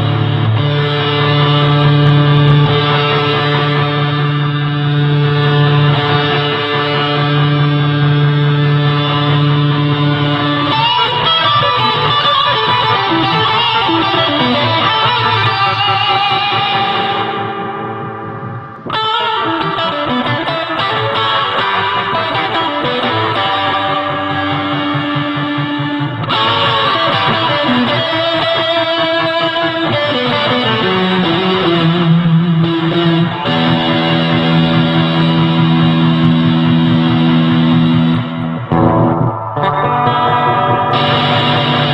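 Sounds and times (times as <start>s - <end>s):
electric guitar with fuzz and reverb: 0.0s - 41.9s.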